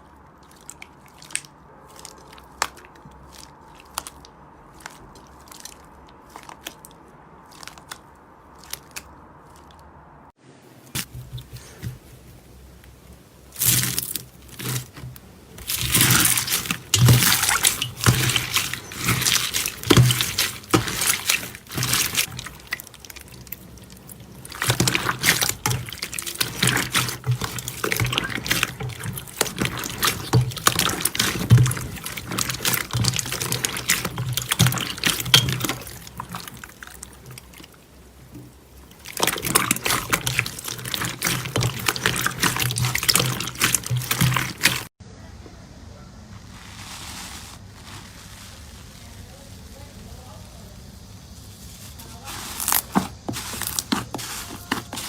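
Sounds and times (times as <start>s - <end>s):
slime squishing and crackling: 0.0s - 9.9s, 13.4s - 45.0s, 46.4s - 55.0s.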